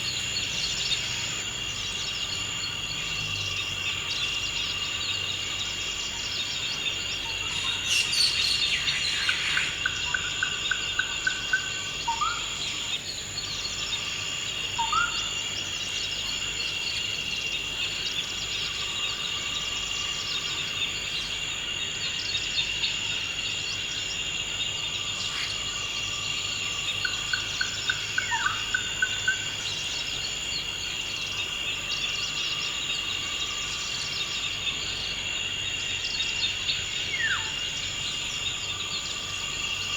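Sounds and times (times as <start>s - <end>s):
insects chirping chorus: 0.0s - 39.9s
songbird trill: 0.0s - 39.9s.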